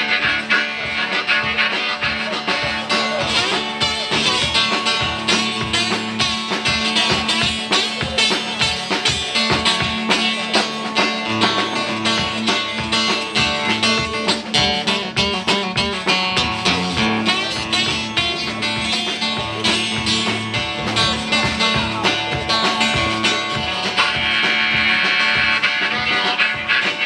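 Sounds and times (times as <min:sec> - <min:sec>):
drum kit steady beat: 0:00.0 - 0:27.0
strummed acoustic guitar blues: 0:00.0 - 0:27.0.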